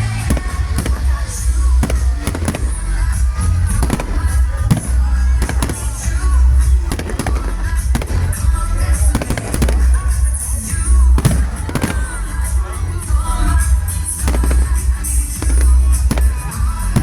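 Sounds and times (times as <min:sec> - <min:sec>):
deep low rumble: 0:00.0 - 0:17.0
fireworks bangs and crackles: 0:00.0 - 0:17.0
music playing: 0:00.0 - 0:17.0.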